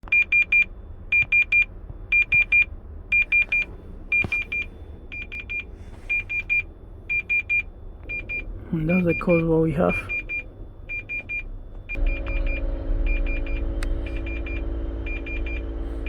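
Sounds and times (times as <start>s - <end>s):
truck warning beeper: 0.1s - 16.0s.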